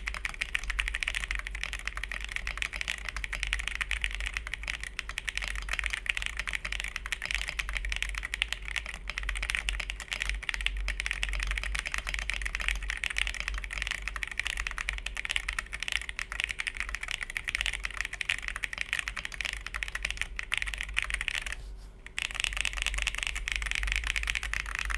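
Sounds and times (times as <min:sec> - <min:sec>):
fast mechanical keyboard typing: 0:00.0 - 0:24.9.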